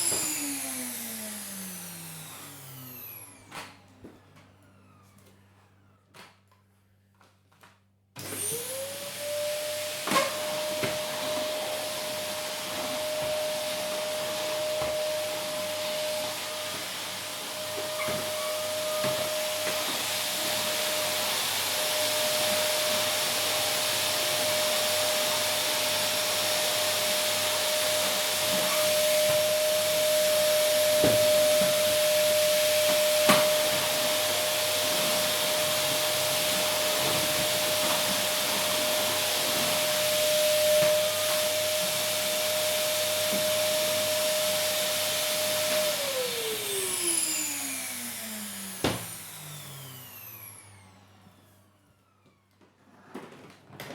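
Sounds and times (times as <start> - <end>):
vacuum cleaner running: 0.0 - 6.4, 8.2 - 53.9.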